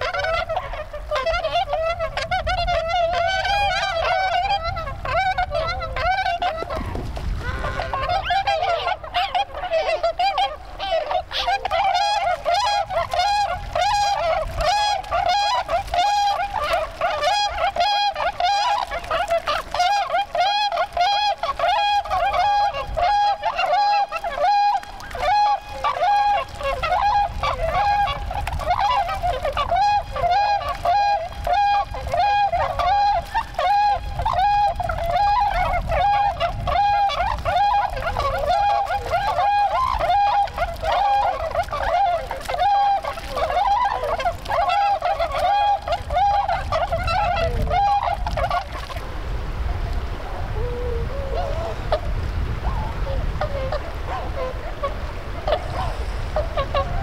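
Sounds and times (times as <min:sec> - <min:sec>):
swans honking: 0:00.0 - 0:49.0, 0:50.6 - 0:57.0.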